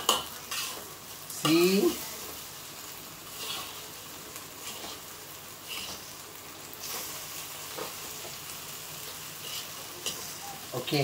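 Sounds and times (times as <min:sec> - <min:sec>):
utensil scraping a wok: 0:00.0 - 0:02.4, 0:03.2 - 0:06.2, 0:06.8 - 0:10.8
noodles sizzling in a wok: 0:00.0 - 0:11.0.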